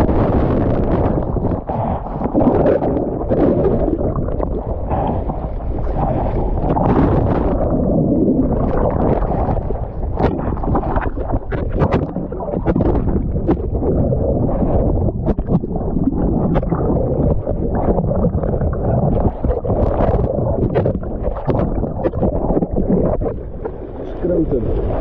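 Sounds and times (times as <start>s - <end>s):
sea water rushing and splashing: 0.0s - 25.0s
wind buffeting microphone: 0.0s - 25.0s.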